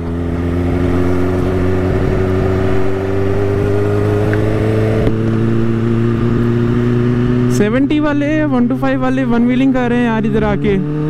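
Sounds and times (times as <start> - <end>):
wind rush: 0.0 - 10.9
motorcycle engine running: 0.0 - 11.0.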